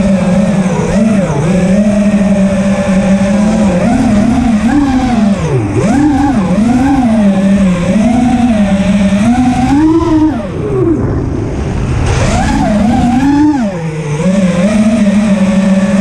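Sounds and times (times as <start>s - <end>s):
wind noise: 0.0s - 15.0s
quadcopter motors whining: 0.0s - 16.0s.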